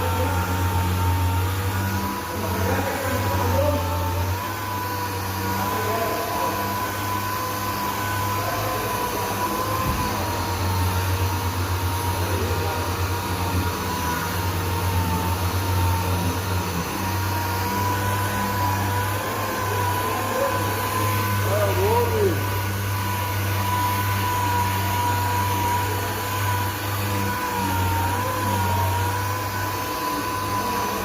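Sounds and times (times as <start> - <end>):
orbital sander whining: 0.0 - 31.0.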